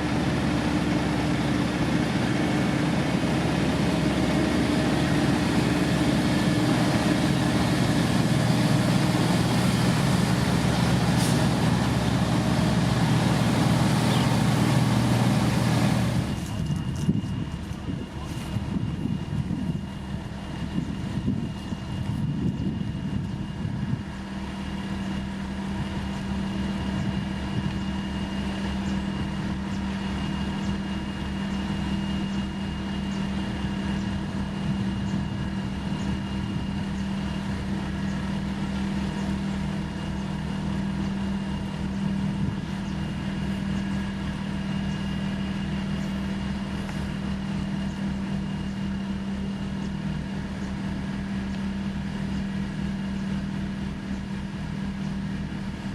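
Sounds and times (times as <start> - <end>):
diesel construction machinery running: 0.0 - 55.9.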